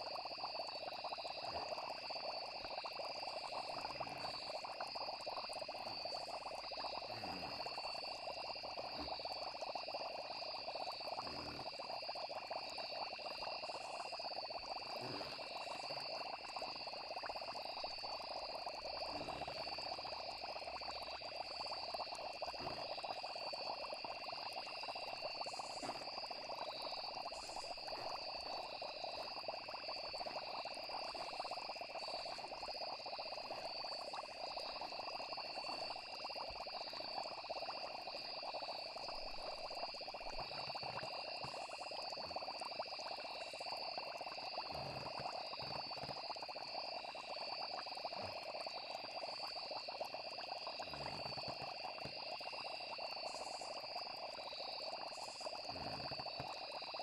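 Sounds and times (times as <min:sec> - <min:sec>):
faint low plops: 0:00.0 - 0:52.6
frogs chorus: 0:00.0 - 0:57.0
insects trilling: 0:00.0 - 0:57.0.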